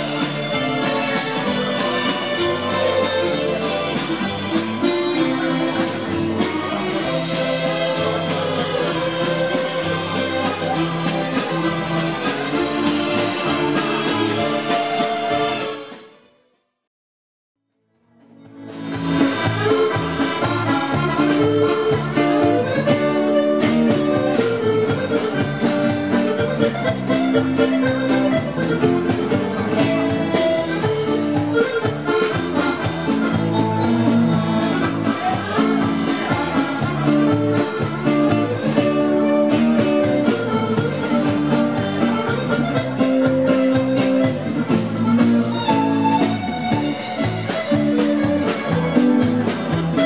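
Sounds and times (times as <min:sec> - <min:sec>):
accordion dance music: 0:00.0 - 0:16.2, 0:18.2 - 0:50.0.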